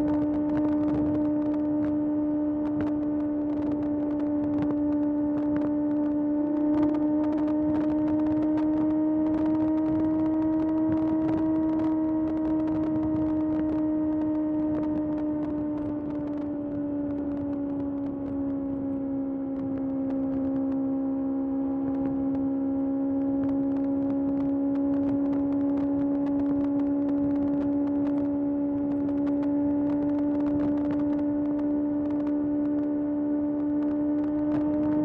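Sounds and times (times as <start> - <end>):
motorcycle engine cruising: 0.0 - 35.0.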